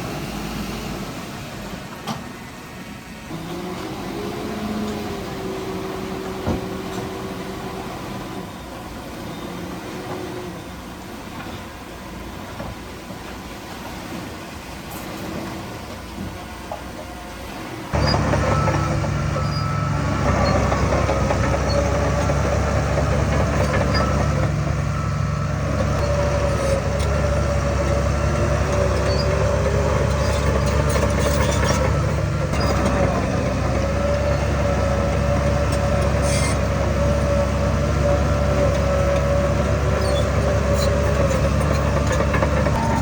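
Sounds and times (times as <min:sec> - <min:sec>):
diesel machinery engine drone: 0:00.0 - 0:13.8, 0:15.1 - 0:43.0.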